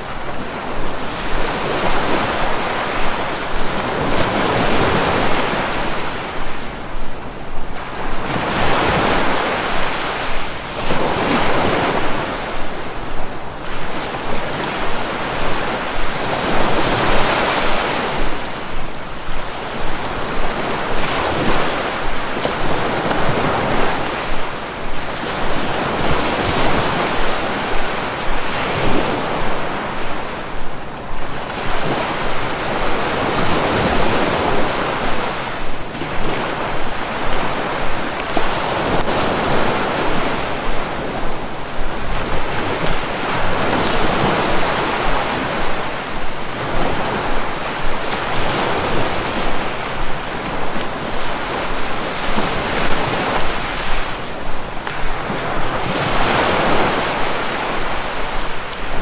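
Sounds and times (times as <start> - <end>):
sea waves breaking ashore: 0.0 - 59.0.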